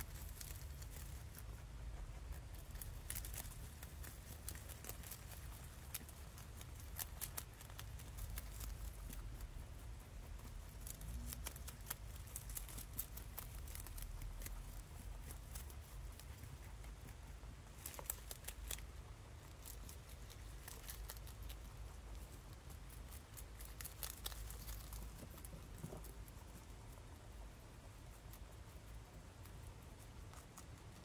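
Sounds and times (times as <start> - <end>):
low steady rumble: 0.0 - 31.0
rabbit chewing leafy greens: 0.0 - 31.0.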